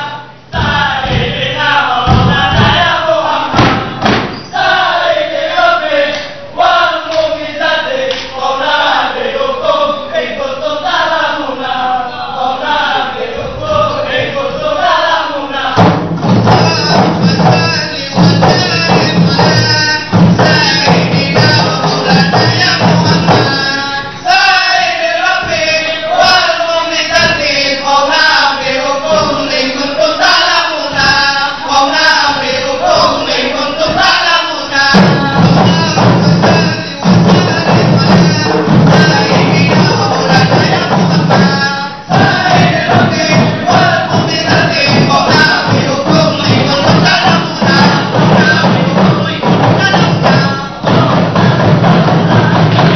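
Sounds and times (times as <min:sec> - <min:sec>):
frame drums beaten in unison: 0:00.0 - 0:09.9, 0:12.8 - 0:52.9
male group chant-singing: 0:00.0 - 0:52.9.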